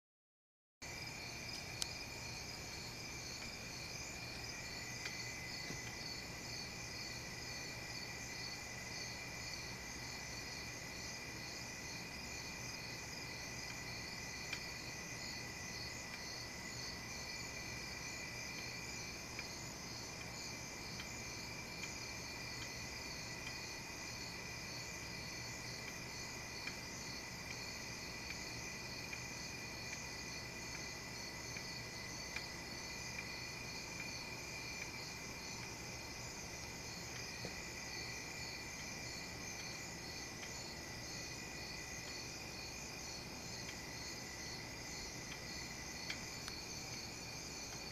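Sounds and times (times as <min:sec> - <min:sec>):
insects chirping: 0:00.8 - 0:47.9.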